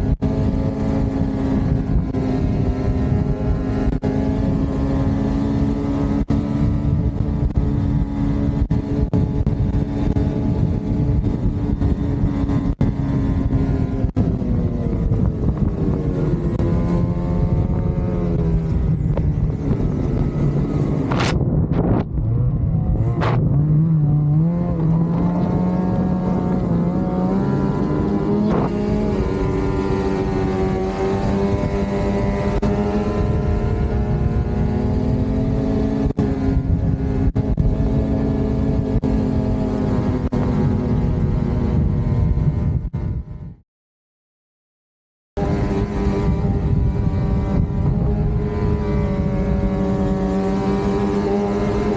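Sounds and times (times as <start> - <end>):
snowmobile engine revving: 0.0 - 43.0, 45.4 - 51.9
wind and track noise: 0.0 - 43.6, 45.4 - 51.9.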